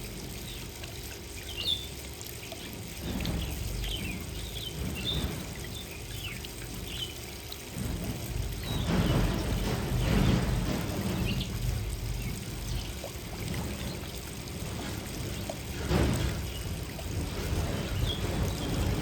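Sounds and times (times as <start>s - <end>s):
water splashing in a birdbath: 0.0s - 19.0s.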